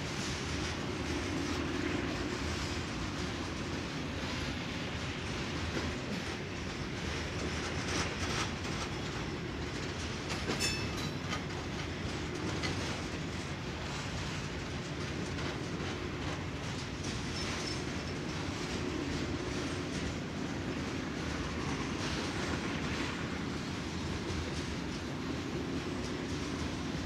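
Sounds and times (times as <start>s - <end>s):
freight train cars rumbling: 0.0s - 27.0s
wheels clicking over rail joints: 2.4s - 27.0s.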